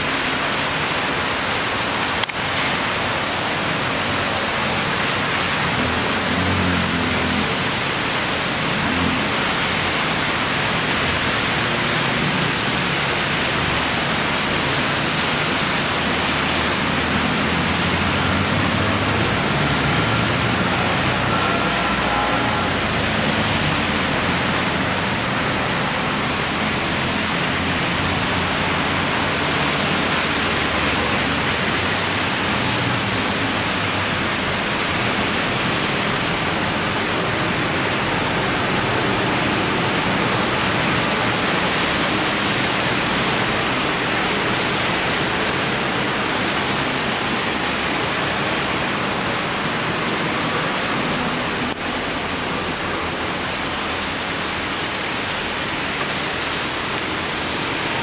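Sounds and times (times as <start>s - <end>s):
cars driving on wet road: 0.0s - 58.0s
heavy rain pouring: 0.0s - 58.0s.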